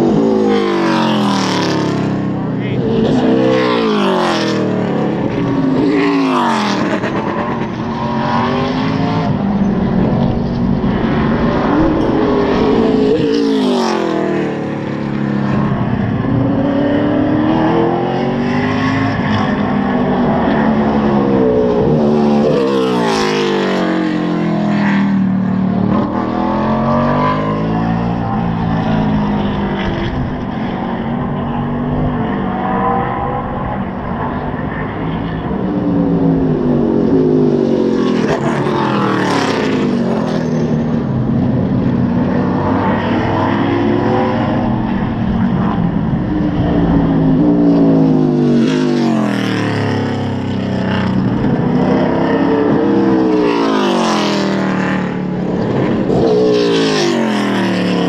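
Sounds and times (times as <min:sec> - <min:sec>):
race cars passing by: 0:00.0 - 0:58.0.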